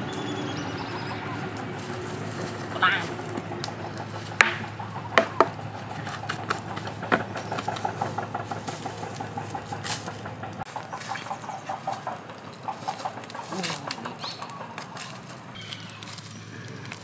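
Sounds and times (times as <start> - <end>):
distant motor puttering: 0.0 - 17.0
low hum: 0.0 - 17.0
firewood knocking: 2.4 - 16.2.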